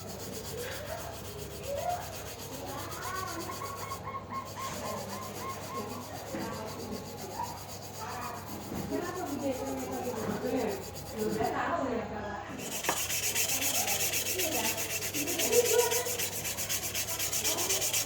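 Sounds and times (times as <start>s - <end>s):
sanding on a hard surface: 0.0s - 11.7s, 12.5s - 18.0s.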